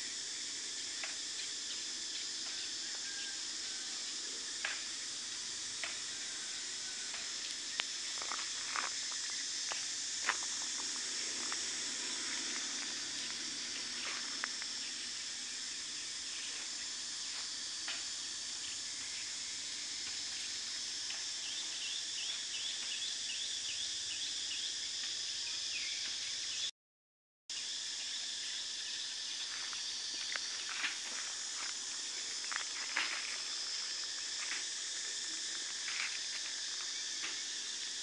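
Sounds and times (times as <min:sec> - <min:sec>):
high insect drone: 0:00.0 - 0:26.7, 0:27.5 - 0:38.0.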